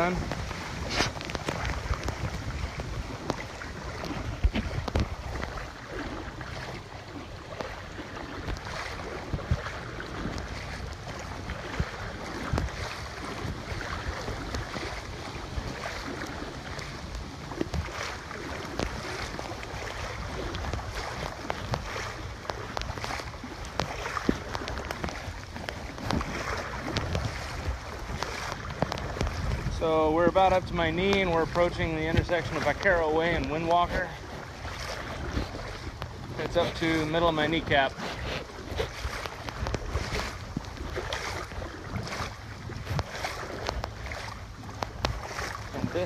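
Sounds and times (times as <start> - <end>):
wading through floodwater: 0.0 - 46.0.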